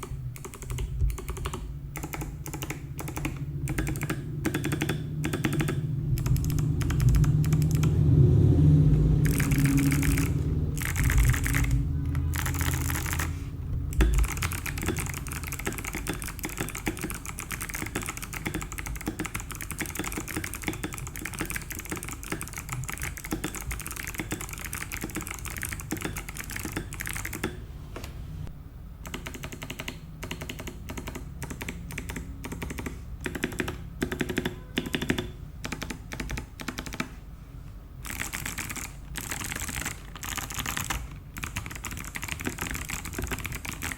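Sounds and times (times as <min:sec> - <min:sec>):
rapid typing on clicky keyboard: 0:00.0 - 0:08.0, 0:09.2 - 0:13.4, 0:14.0 - 0:27.6, 0:29.0 - 0:37.1, 0:38.0 - 0:43.9.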